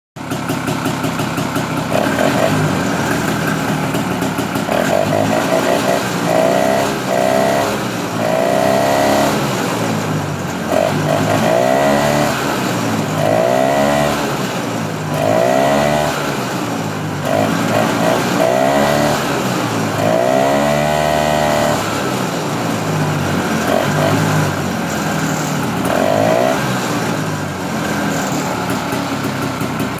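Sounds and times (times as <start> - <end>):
snowmobile engine revving: 1.8 - 30.0.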